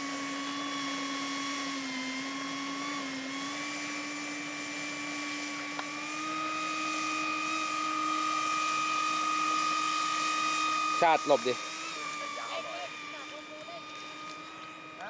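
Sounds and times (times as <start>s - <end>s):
electric ducted fans whining: 0.0s - 15.0s.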